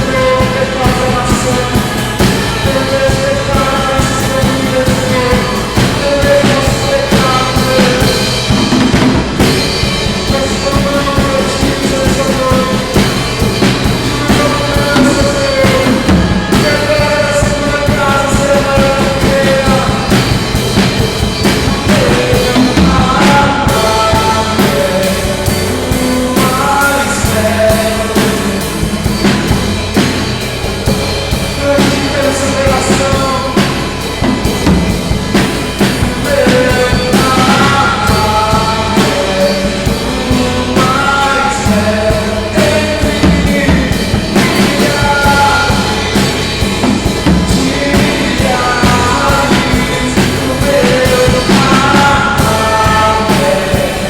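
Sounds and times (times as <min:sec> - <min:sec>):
drum kit with cymbals: 0:00.0 - 0:54.0
person singing: 0:00.0 - 0:54.0.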